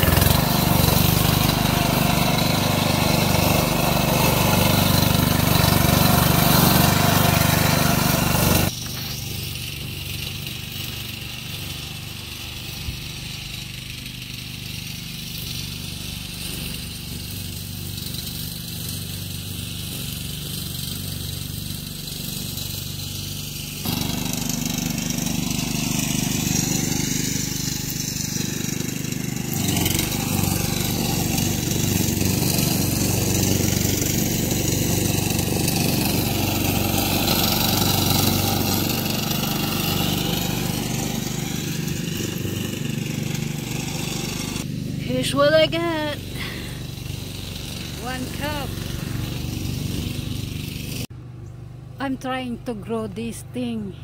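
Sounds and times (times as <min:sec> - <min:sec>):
small engine humming: 0:00.0 - 0:54.0.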